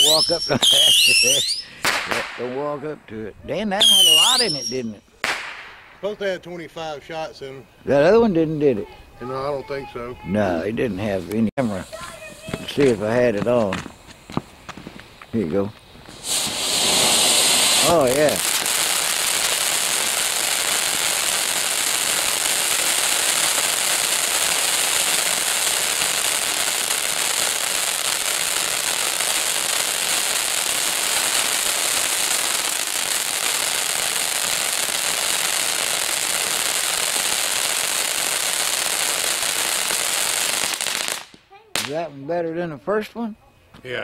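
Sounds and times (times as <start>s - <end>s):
firework fountain hissing: 0.0s - 42.0s.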